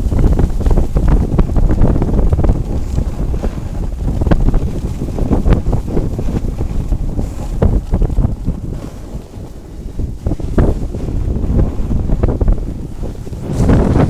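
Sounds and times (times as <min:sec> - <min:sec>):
short crackles: 0:00.0 - 0:14.0
wind buffeting microphone: 0:00.0 - 0:14.0.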